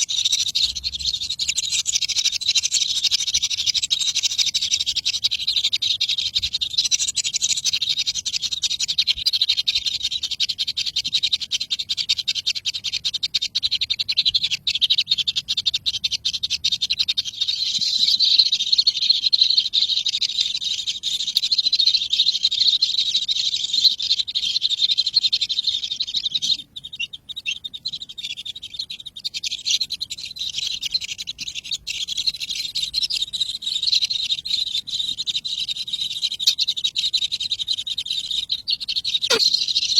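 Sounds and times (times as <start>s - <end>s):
baby birds cheeping: 0.0s - 39.9s.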